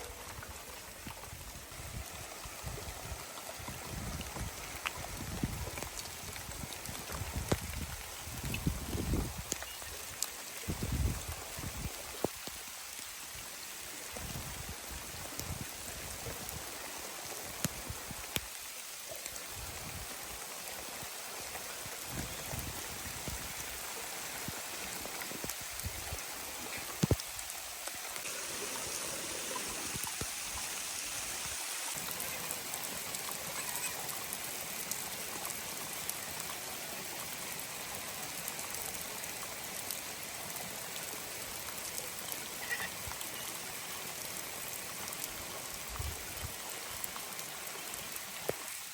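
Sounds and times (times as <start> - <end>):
steady rain falling: 0.0 - 48.9
water drips: 0.0 - 48.9.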